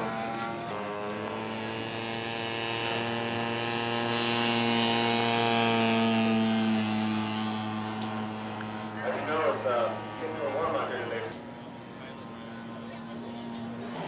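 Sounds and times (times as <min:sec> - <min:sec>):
model airplane engine and propeller: 0:00.0 - 0:14.0.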